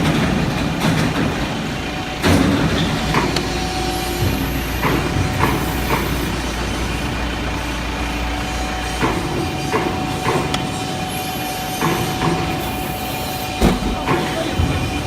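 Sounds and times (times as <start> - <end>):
constant machine whine: 0.0 - 15.0
lower machine whine: 0.0 - 15.0
hydraulic drive hum: 0.3 - 15.0.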